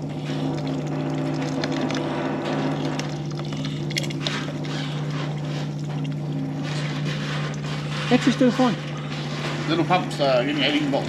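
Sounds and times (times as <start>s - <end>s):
electric fuel pump buzzing: 0.0s - 11.0s.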